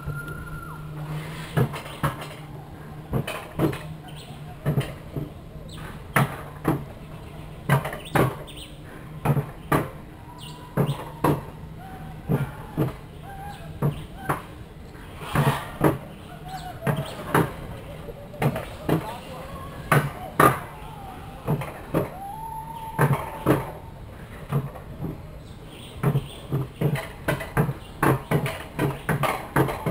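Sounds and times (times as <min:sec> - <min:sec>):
bobsled wheels clacking: 0:00.0 - 0:29.9
low rolling hum: 0:00.0 - 0:29.9.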